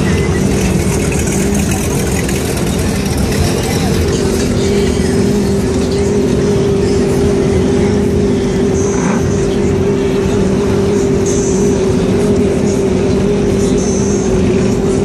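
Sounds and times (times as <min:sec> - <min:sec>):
motorboat engine running: 0:00.0 - 0:15.0
water noise: 0:00.0 - 0:15.0.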